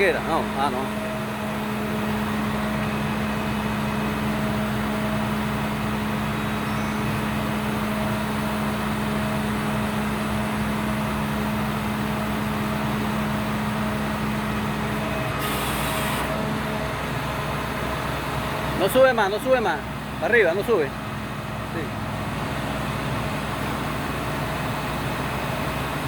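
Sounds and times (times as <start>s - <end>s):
truck engine humming: 0.0s - 26.0s.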